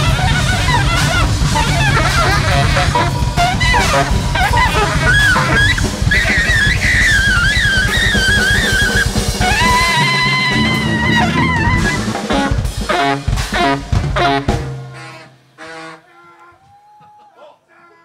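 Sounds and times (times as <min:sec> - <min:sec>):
drum kit: 0:00.0 - 0:15.4
band stabs: 0:00.0 - 0:16.1
jazz big band playing: 0:00.0 - 0:16.1.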